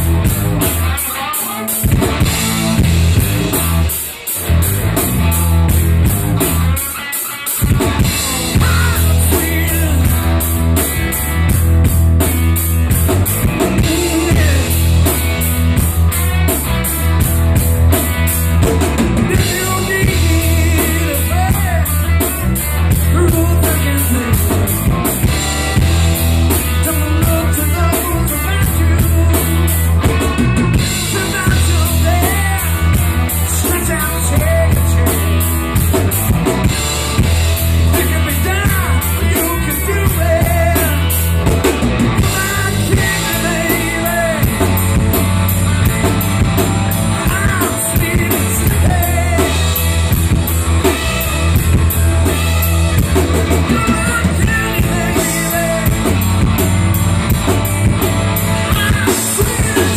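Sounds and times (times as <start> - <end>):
drum kit beat: 0.0 - 59.9
electric bass: 0.0 - 59.9
electric guitars: 0.0 - 59.9.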